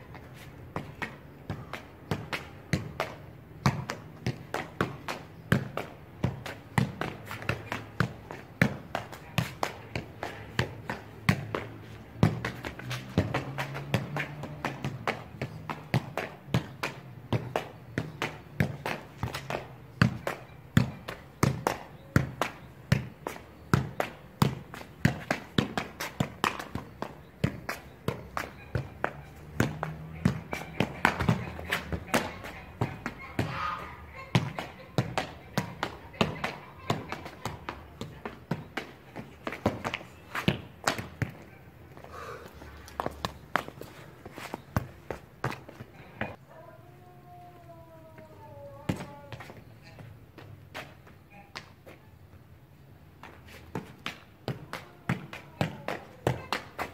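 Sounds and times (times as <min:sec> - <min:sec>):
foot kicking football: 0:00.0 - 0:46.4.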